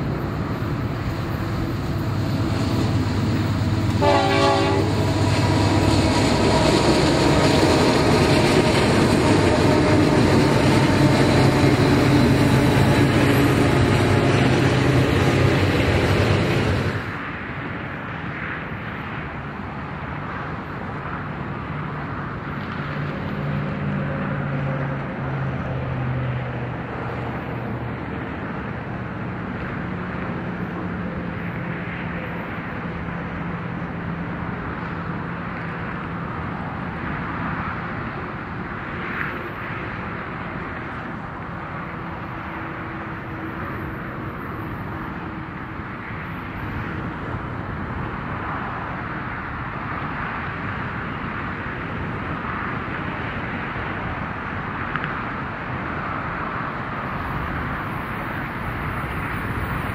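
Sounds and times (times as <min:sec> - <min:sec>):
diesel freight train rumbling past: 0:00.0 - 0:59.9.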